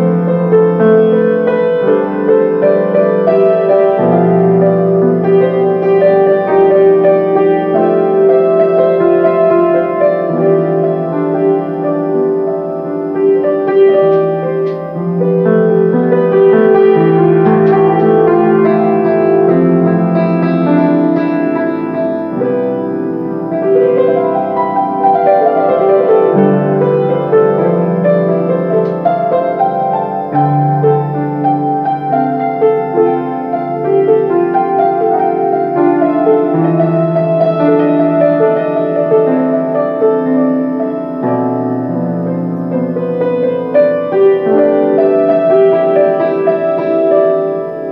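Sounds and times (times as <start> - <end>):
slow gentle piano piece: 0.0 - 47.9.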